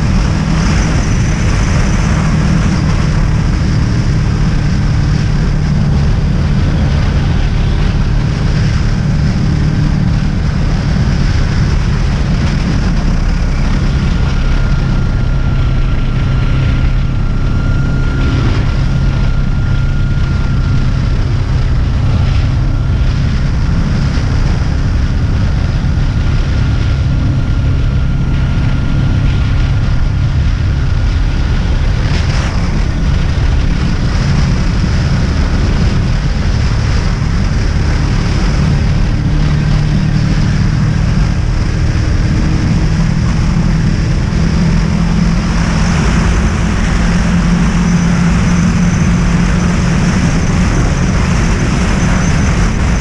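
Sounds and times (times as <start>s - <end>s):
motorcycle engine running: 0.0s - 53.0s
wind buffeting microphone: 0.0s - 53.0s.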